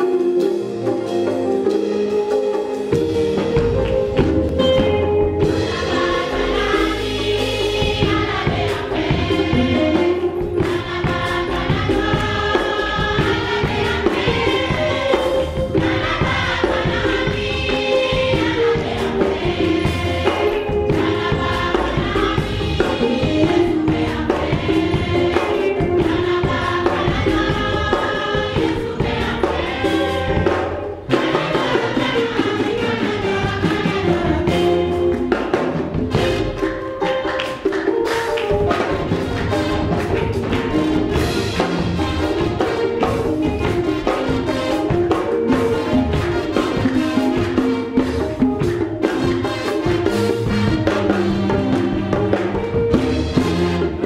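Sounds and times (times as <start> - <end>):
choir singing gospel in harmony: 0.0 - 36.8, 38.8 - 54.0
percussion beat: 0.0 - 54.0.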